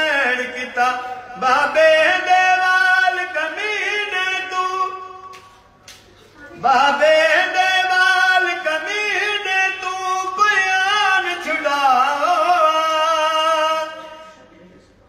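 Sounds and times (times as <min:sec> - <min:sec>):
elderly man singing unaccompanied: 0:00.0 - 0:05.3, 0:06.5 - 0:14.1.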